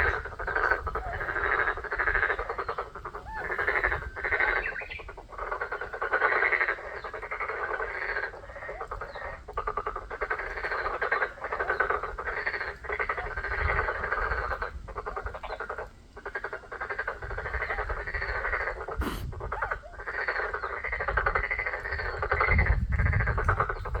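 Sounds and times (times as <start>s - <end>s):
frogs croaking in chorus: 0.0s - 24.0s.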